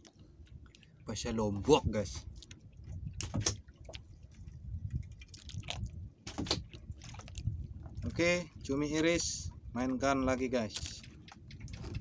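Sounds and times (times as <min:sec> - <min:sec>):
water lapping against hull: 0:00.0 - 0:12.0
water splashes: 0:00.0 - 0:12.0.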